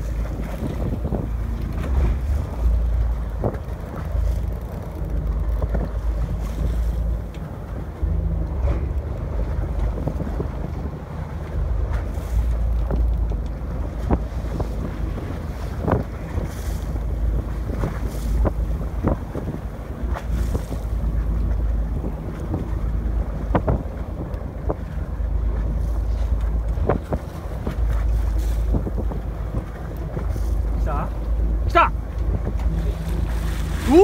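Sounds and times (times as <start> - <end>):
water washing against boat: 0.0 - 34.0
wind buffeting microphone: 0.0 - 34.0.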